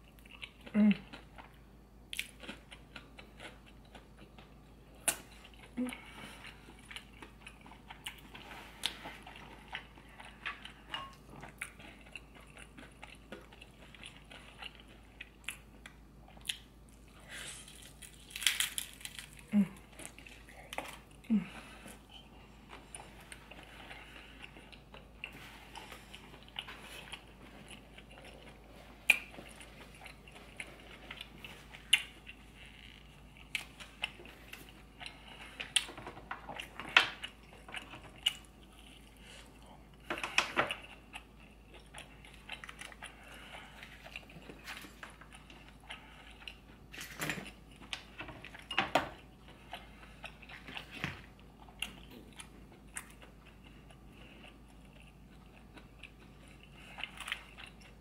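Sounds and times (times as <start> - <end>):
person chewing seafood: 0.0 - 58.0.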